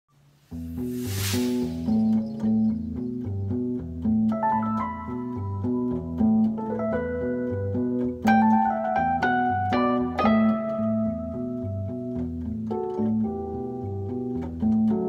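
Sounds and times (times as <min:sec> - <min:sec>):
electric piano bass line: 0:00.6 - 0:15.0.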